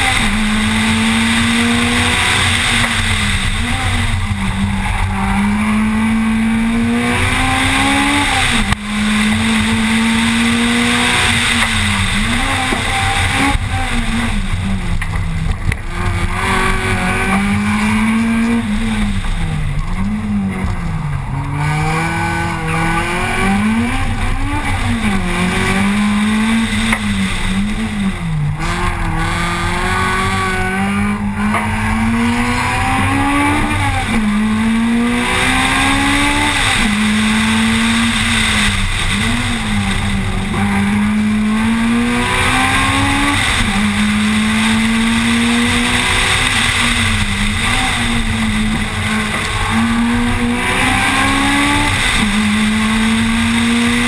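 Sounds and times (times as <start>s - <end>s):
car engine revving hard: 0.0s - 54.0s.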